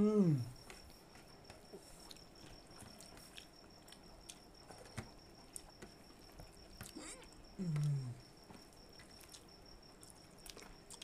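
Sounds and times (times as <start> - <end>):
cricket trill: 0.0 - 11.0
chewing and smacking: 0.6 - 11.0.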